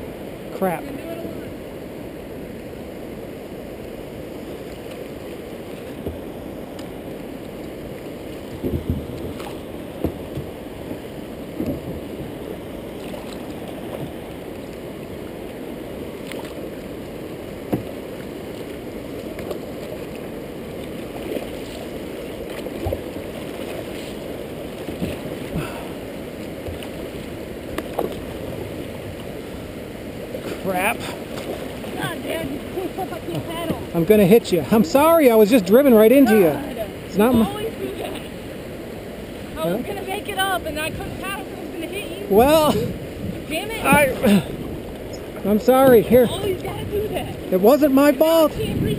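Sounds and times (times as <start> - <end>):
river water rushing and gurgling: 0.0 - 48.9
paddle splashes and knocks: 3.9 - 48.9.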